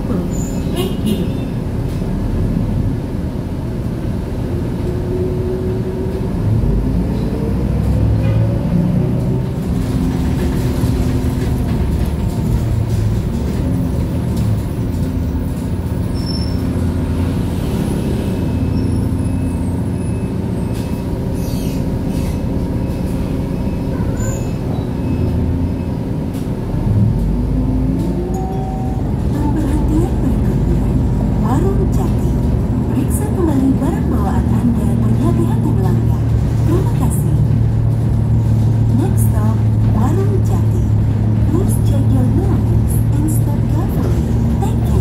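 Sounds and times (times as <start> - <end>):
bus engine rumble: 0.0 - 45.0
road noise inside a bus: 0.0 - 45.0.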